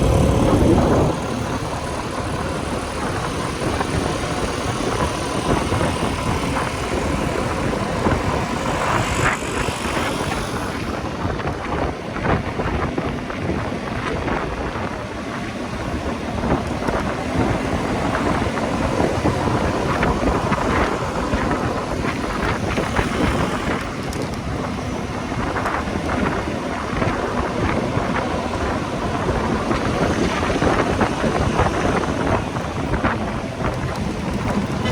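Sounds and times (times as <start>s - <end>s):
motorcycle engine: 0.0s - 12.1s, 15.5s - 34.9s
wind buffeting microphone: 0.0s - 34.9s.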